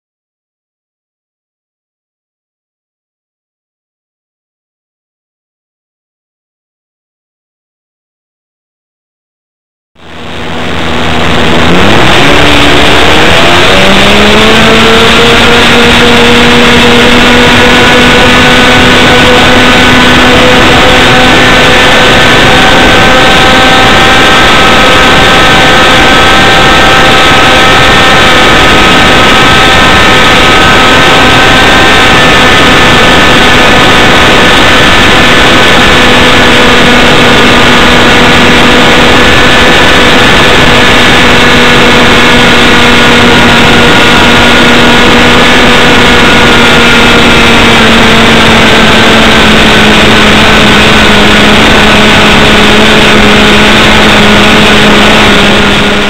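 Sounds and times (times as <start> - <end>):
model aircraft engine buzzing: 10.0 - 56.0
wind rush: 10.0 - 56.0.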